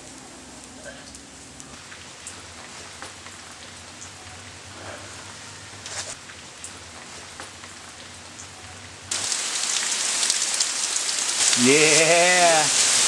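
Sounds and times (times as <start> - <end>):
rain falling on stone: 0.0 - 13.0.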